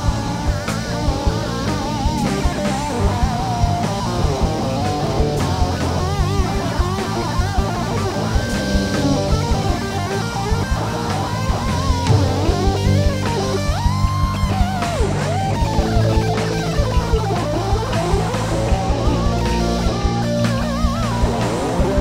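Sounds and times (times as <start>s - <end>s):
bass guitar: 0.0s - 22.0s
drum kit: 0.0s - 22.0s
electric guitar lead: 0.0s - 22.0s.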